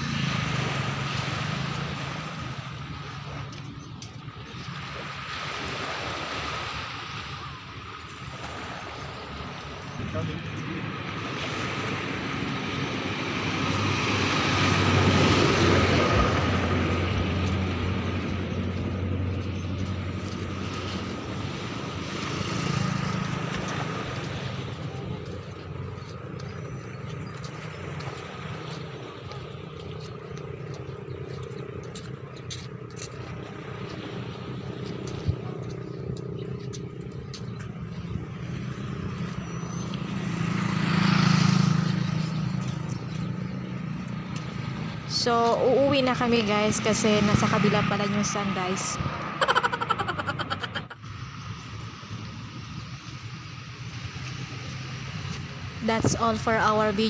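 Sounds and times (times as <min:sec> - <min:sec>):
steady traffic hum: 0:00.0 - 0:57.0
vehicles passing: 0:00.0 - 0:57.0.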